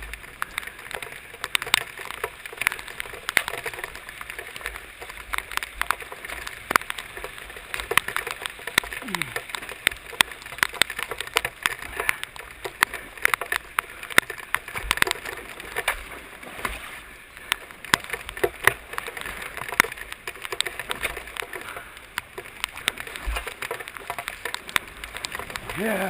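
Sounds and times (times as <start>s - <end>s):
flood water rushing: 0.0s - 26.0s
sharp taps and splashes: 0.0s - 26.0s.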